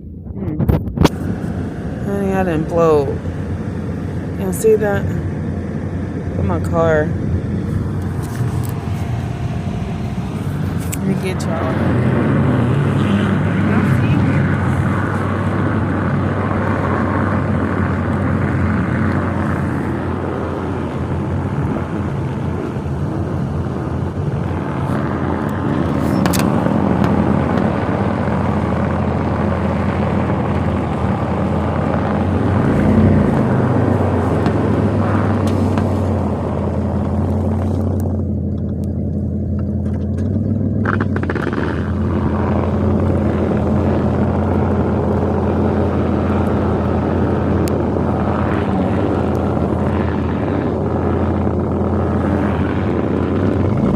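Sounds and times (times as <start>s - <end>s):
constant rushing noise: 0.0s - 53.9s
vehicle engine droning: 0.0s - 53.9s.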